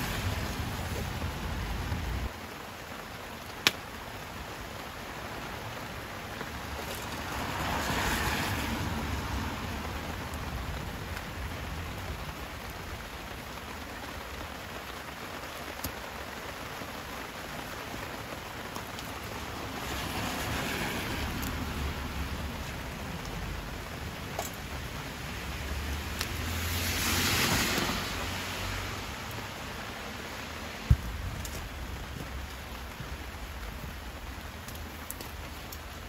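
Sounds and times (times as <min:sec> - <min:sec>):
rain hissing: 0:00.0 - 0:36.0.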